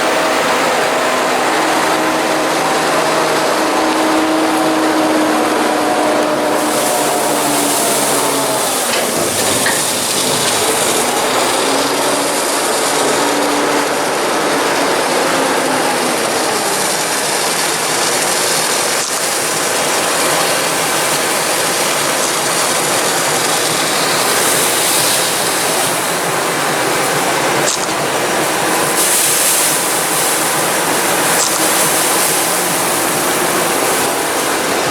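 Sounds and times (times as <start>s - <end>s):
harvester rushing and rattling: 0.0s - 34.9s.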